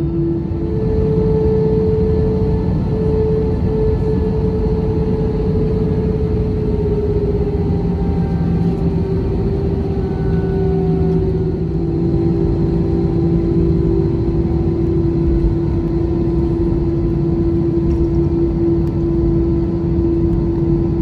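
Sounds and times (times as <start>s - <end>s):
jet engines humming: 0.0s - 21.0s.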